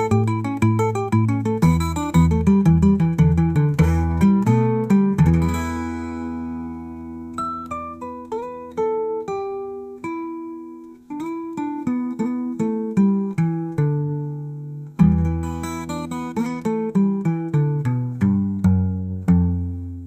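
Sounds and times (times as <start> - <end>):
blues guitar plucked notes: 0.0 - 20.0
guitar strum: 0.0 - 20.0.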